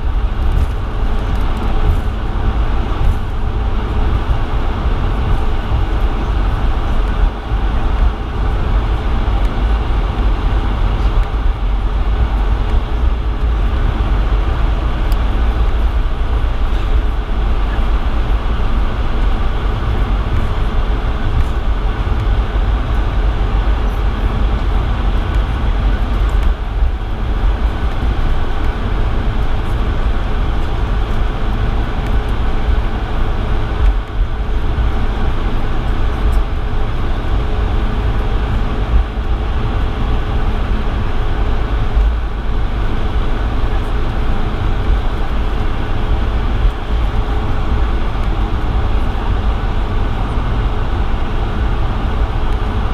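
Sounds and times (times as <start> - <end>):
jet engines idling low rumble: 0.0 - 52.9.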